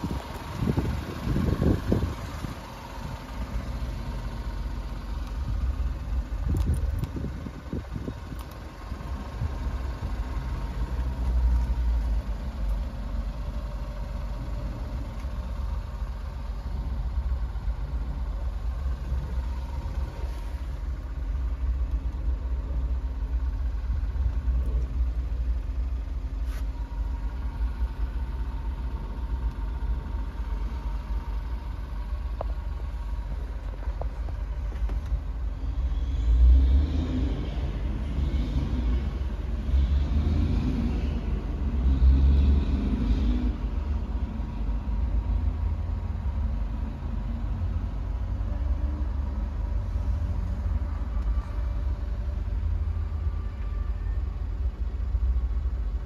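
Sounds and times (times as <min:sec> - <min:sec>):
truck engine idling: 0:00.0 - 0:56.0.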